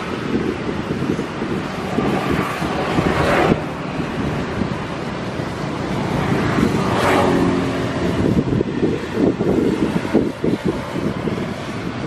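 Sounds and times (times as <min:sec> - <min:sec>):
outdoor rumble: 0:00.0 - 0:12.0
wind buffeting microphone: 0:00.0 - 0:12.0.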